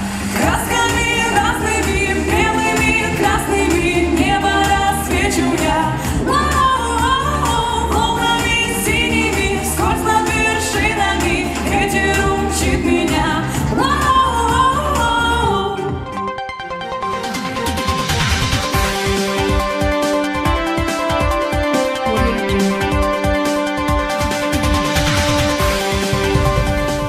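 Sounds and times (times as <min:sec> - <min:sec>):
pop song with singing: 0:00.0 - 0:26.9.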